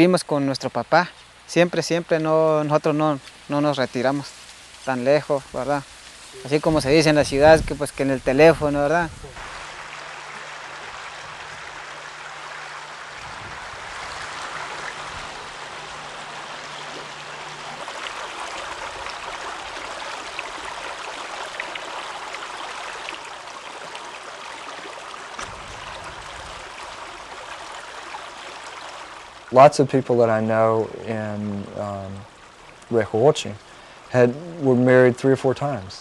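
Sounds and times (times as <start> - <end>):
low steady hum: 0.0 - 36.0
running water flowing: 0.0 - 36.0.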